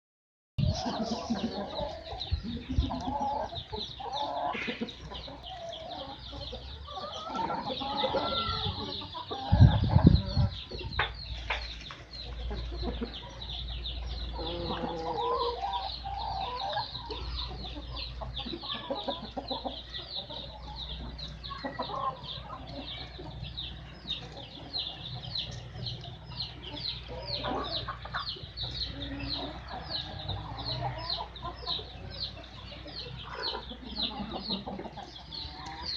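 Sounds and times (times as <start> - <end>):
chicks peeping: 0.6 - 35.9
hens clucking: 0.6 - 35.9.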